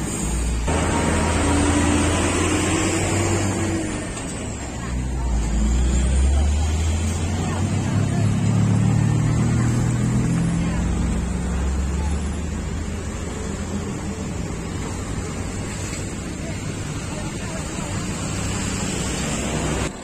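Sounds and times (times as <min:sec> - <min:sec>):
forklift engines droning: 0:00.0 - 0:20.0.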